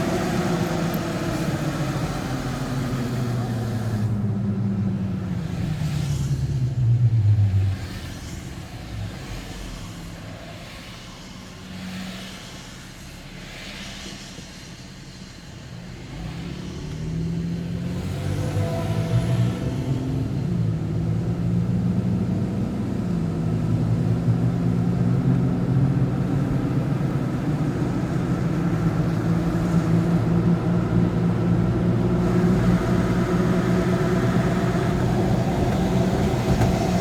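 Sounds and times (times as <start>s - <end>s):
road noise: 0.0s - 37.0s
vehicle engine: 0.0s - 37.0s.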